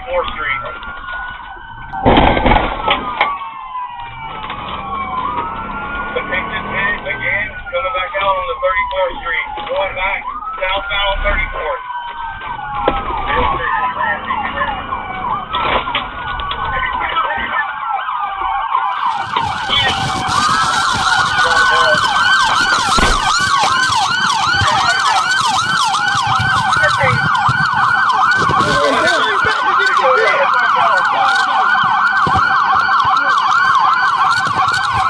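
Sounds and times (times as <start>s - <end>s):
police sirens wailing and yelping: 0.0s - 35.0s.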